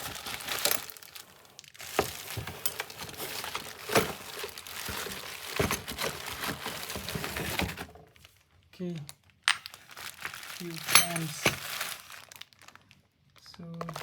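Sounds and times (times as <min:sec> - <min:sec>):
packaging rustling and crinkling: 0:00.0 - 0:08.5, 0:09.2 - 0:14.0.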